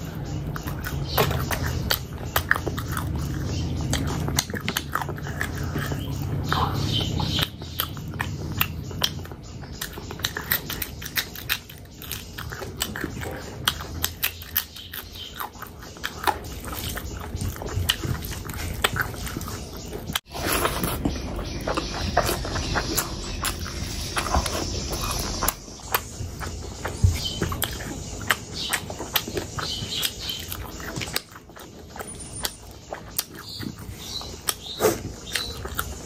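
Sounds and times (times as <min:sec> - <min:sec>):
chewing and mouth smacks: 0:00.0 - 0:36.0.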